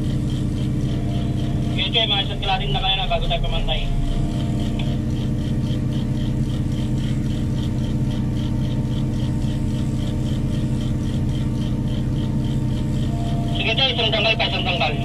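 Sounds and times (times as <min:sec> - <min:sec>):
crane diesel engine running: 0:00.0 - 0:15.0
high-pitched ticking chirp: 0:00.0 - 0:15.0.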